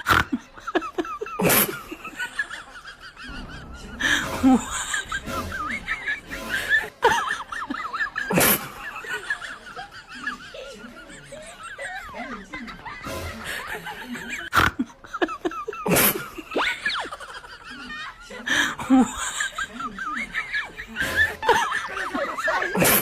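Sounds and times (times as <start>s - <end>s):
people laughing: 0.0s - 23.0s.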